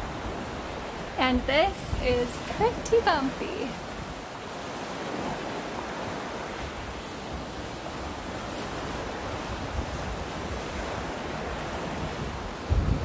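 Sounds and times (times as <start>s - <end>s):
big seas: 0.0s - 13.0s
boat wake churning: 0.0s - 13.0s
wind buffeting microphone: 0.0s - 13.0s.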